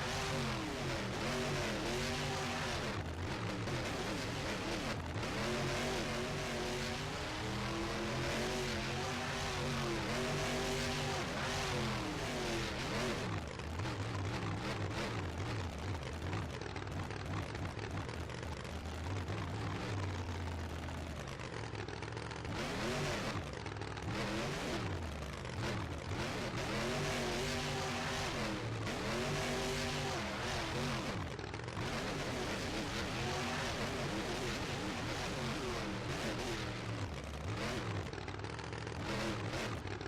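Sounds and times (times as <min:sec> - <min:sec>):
vehicle engine revving: 0:00.0 - 0:16.3, 0:18.3 - 0:40.0.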